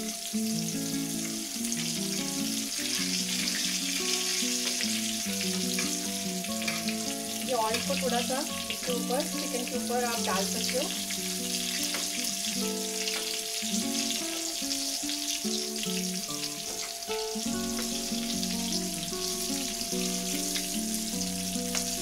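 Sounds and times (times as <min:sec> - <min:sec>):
background music: 0:00.0 - 0:22.0
chicken sizzling in hot oil: 0:00.0 - 0:22.0
spoon basting oil: 0:00.4 - 0:22.0.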